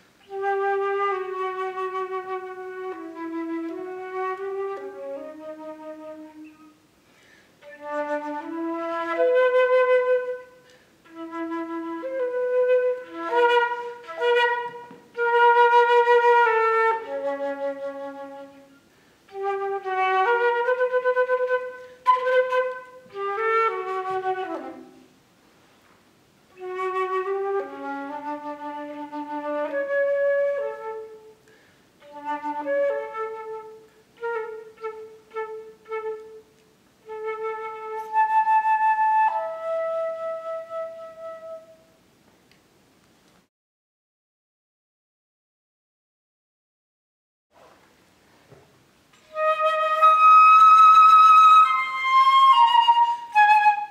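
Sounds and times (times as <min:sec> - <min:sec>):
solo flute playing: 0:00.0 - 0:25.2, 0:26.5 - 0:42.0, 0:49.2 - 0:53.9.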